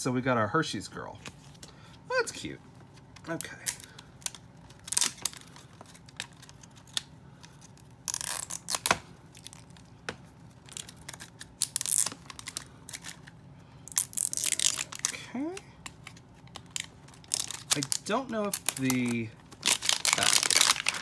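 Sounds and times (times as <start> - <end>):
plastic packaging tearing and crinkling: 3.3 - 9.8, 10.5 - 21.0.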